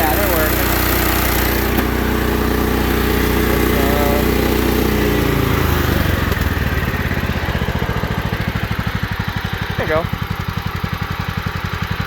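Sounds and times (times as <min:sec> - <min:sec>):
single-cylinder engine idling: 0:00.0 - 0:12.0.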